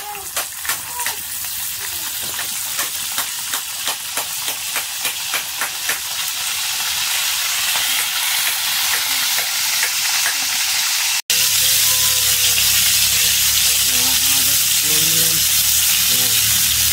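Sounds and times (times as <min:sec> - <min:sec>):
food sizzling in hot oil: 0:00.0 - 0:16.9.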